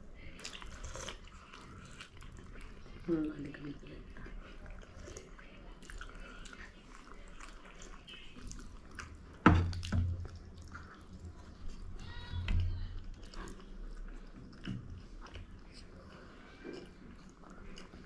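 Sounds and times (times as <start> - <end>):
chewing and mouth sounds: 0.2 - 11.9, 12.6 - 18.0.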